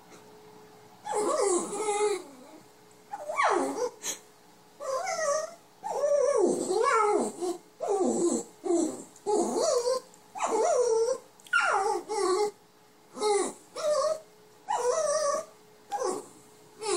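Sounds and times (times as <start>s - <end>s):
puppy whining and grumbling: 1.0s - 4.2s, 4.8s - 16.9s.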